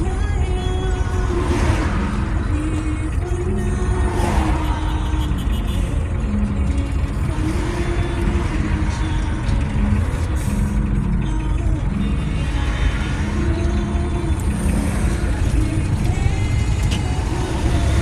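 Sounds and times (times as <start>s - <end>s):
music: 0.0s - 18.0s
road noise from moving car: 0.0s - 18.0s
truck engine rumble passing: 0.0s - 18.0s.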